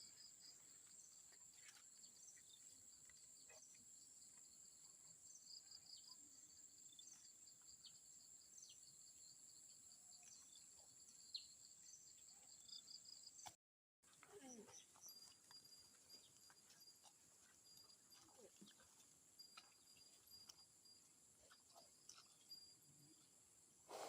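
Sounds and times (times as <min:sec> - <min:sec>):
crickets chirping: 0:00.0 - 0:13.4, 0:14.4 - 0:24.0.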